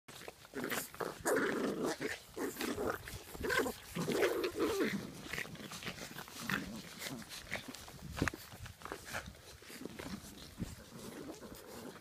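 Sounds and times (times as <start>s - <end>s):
puppies growling in play: 0.1s - 12.0s.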